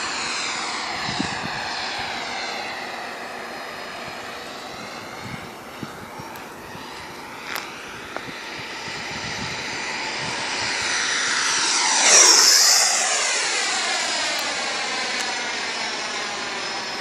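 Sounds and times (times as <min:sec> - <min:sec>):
electric ducted fan jet whine: 0:00.0 - 0:17.0.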